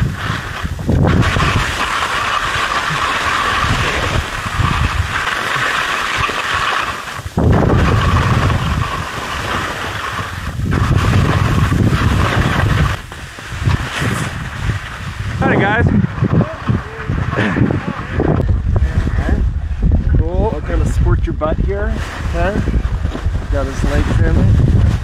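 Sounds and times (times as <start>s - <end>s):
skis scraping over snow: 0.0s - 19.4s, 20.4s - 25.0s
wind rumbling on microphone: 0.0s - 25.0s.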